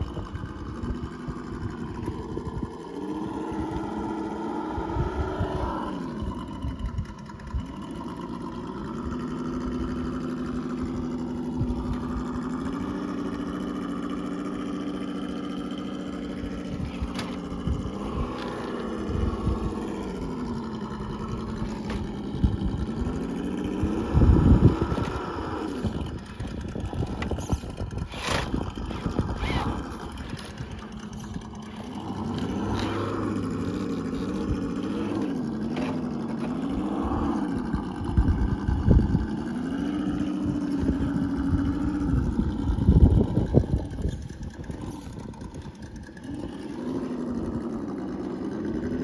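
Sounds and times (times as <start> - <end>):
low rumbles: 0.0 - 49.0
toy truck electric motor whining: 7.9 - 49.0.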